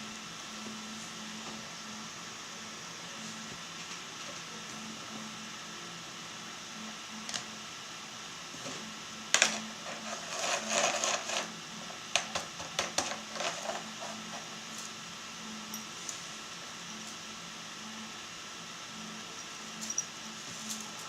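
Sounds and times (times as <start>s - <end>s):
faint hum: 0.0s - 21.0s
steady hiss: 0.0s - 21.0s.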